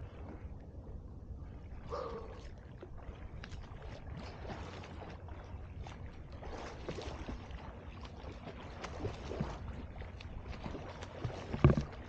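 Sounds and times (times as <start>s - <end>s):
sea water lapping and splashing: 0.0s - 12.0s.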